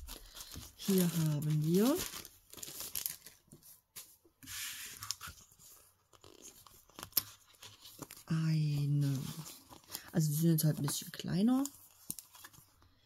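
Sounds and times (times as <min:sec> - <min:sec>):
paper and foil sheets rustling: 0:00.0 - 0:12.7.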